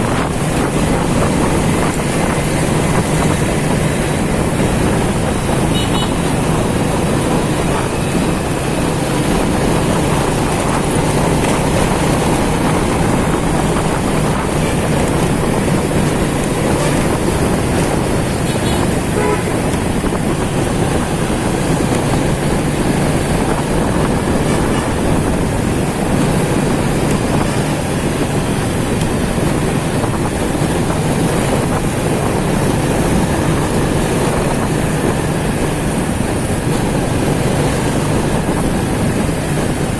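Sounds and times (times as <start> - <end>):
motorcycle engine running: 0.0 - 39.9
road and traffic noise: 0.0 - 39.9.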